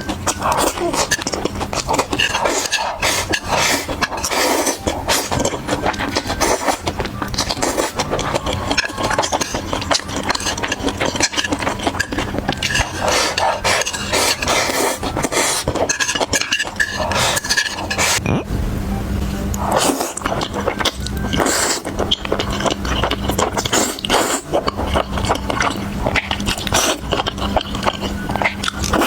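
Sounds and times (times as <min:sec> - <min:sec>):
chewing: 0:00.0 - 0:18.2, 0:19.5 - 0:29.0.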